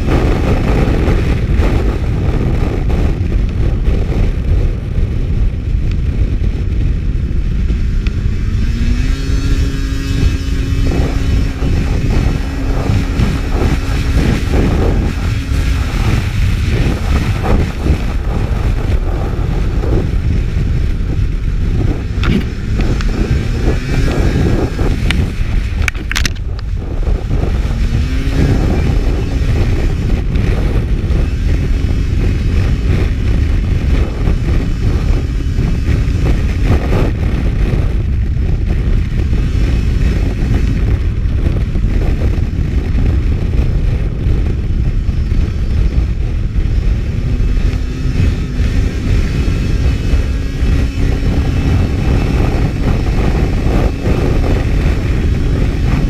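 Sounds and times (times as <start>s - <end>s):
heavy low rush: 0.0s - 56.0s
snowmobile engine running hard: 0.0s - 56.0s.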